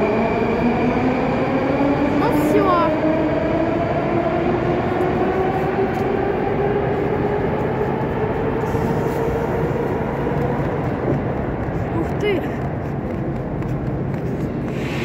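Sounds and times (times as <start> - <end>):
rumble of train running gear: 0.0 - 15.0.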